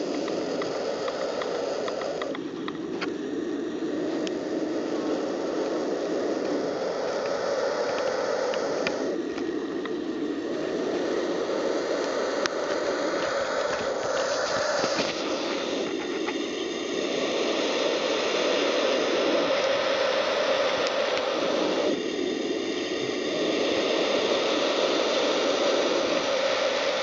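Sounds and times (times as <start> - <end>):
vulture chicks hissing: 0.0 - 27.0.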